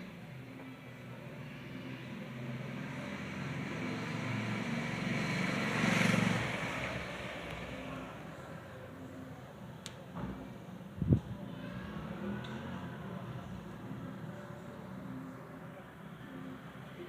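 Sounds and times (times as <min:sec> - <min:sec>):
road vehicle passing by: 0:01.0 - 0:09.2, 0:11.3 - 0:17.0.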